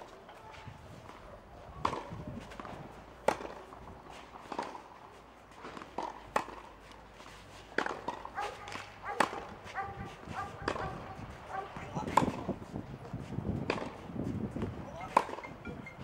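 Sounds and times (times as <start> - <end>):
footsteps on clay: 0.0 - 14.8
tennis balls struck by rackets: 1.0 - 15.7
tennis ball bouncing: 1.8 - 15.9.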